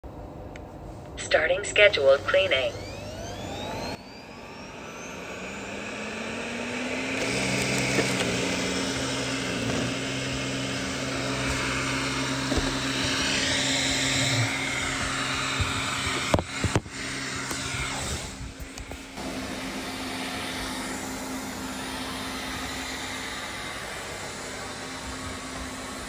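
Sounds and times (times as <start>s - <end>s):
robot vacuum fan whine: 1.1s - 26.0s.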